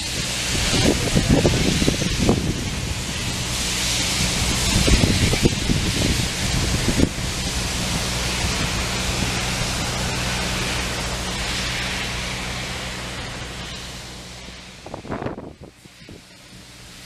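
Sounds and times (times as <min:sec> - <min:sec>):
diesel engine idling: 0:00.0 - 0:17.0
steady hiss: 0:00.0 - 0:17.0.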